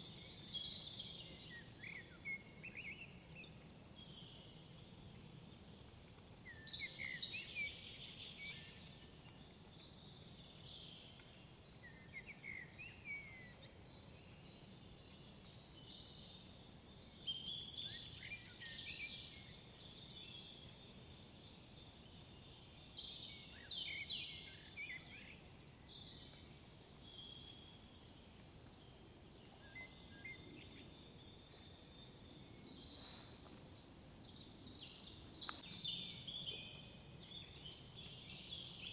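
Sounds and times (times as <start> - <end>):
faint low background noise: 0.0 - 38.9.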